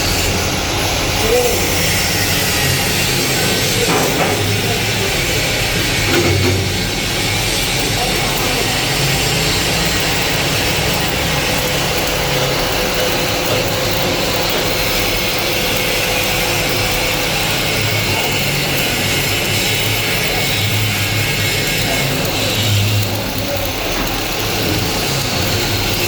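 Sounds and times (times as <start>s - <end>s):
welding arc crackling: 0.0s - 26.0s.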